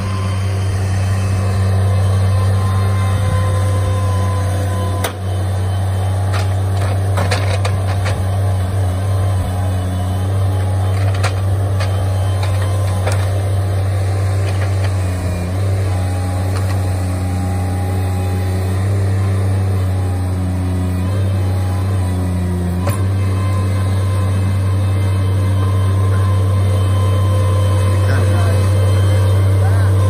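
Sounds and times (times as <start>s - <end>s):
loader engine drone: 0.0s - 30.0s.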